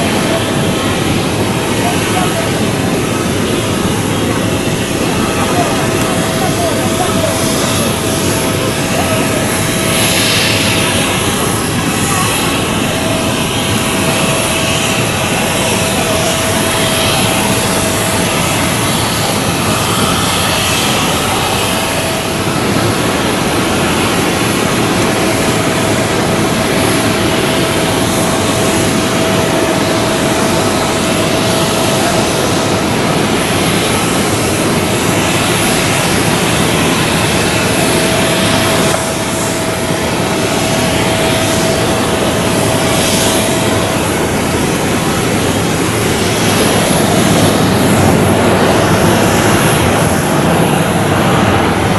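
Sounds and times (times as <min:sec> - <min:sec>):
jet engines running: 0:00.0 - 0:51.9.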